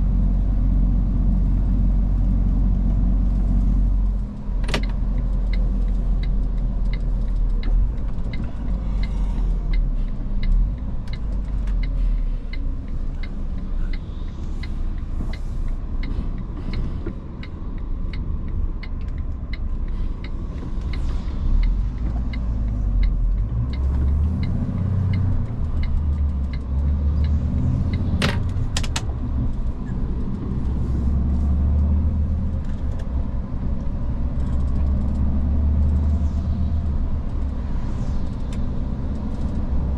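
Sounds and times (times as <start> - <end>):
truck engine and road rumble: 0.0 - 39.9
light ticks: 3.2 - 36.2.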